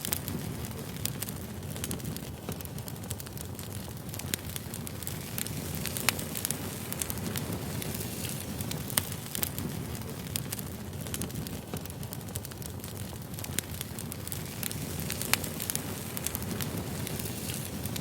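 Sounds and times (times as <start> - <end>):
fire pops and snaps: 0.0 - 18.0.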